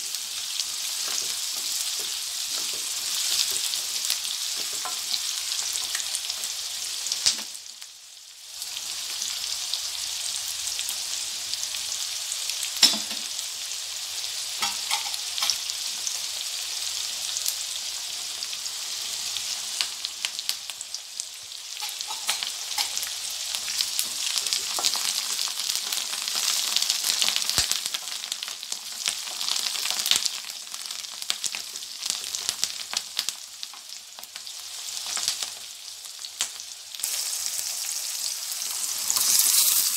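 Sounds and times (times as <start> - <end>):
shallots sizzling in hot oil: 0.0 - 39.9.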